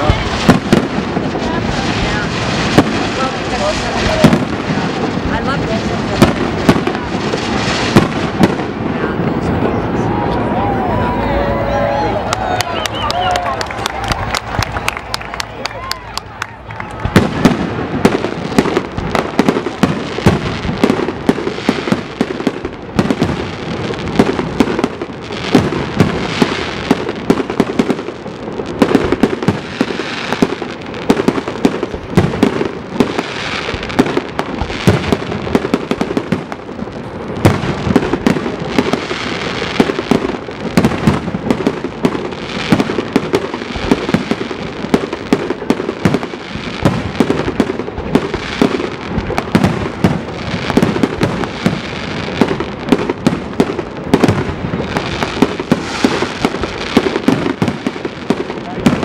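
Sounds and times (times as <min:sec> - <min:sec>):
fireworks bangs: 0:00.0 - 0:59.0
fireworks crackling: 0:00.0 - 0:59.0.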